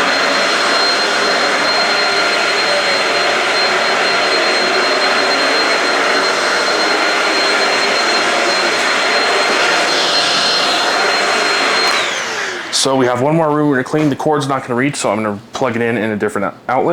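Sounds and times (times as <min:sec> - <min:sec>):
vacuum cleaner running: 0:00.0 - 0:14.1.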